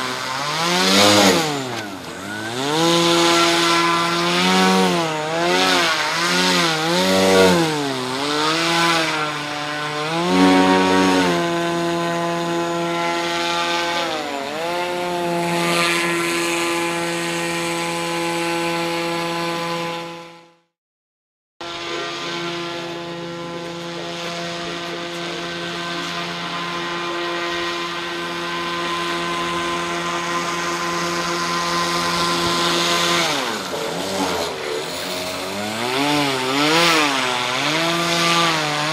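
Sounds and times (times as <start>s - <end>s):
electric motor propeller whine: 0.0s - 20.7s, 21.6s - 38.9s.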